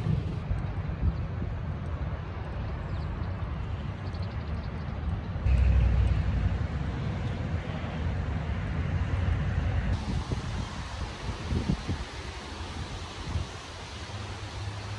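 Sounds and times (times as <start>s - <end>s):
wind buffeting microphone: 0.0s - 14.2s
road traffic: 0.0s - 14.9s.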